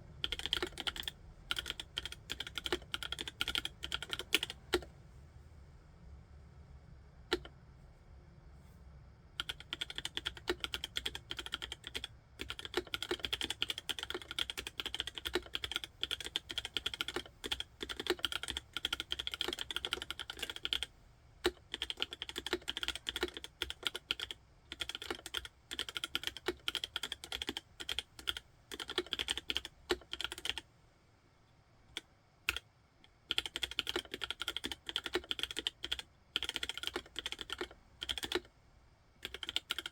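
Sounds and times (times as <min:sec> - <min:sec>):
mechanical keyboard typing: 0:00.2 - 0:04.9, 0:07.3 - 0:07.5, 0:09.4 - 0:30.6, 0:33.2 - 0:38.5, 0:39.2 - 0:39.9.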